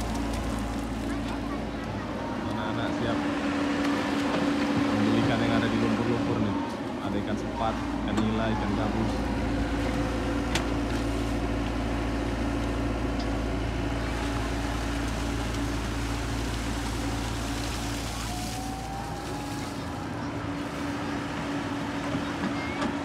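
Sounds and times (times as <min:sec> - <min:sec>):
excavator diesel engine droning: 0:00.0 - 0:23.0.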